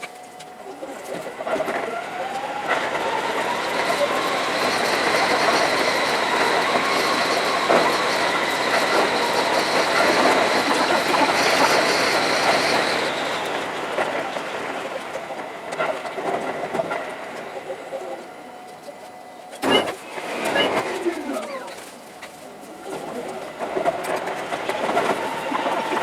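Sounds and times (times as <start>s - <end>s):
electric train on rails: 0.0s - 26.0s.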